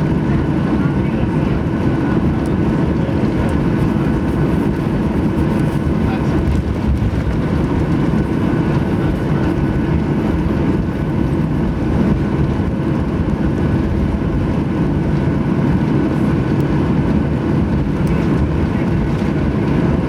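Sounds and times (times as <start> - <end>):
jet engines rumbling in cabin: 0.0 - 20.0.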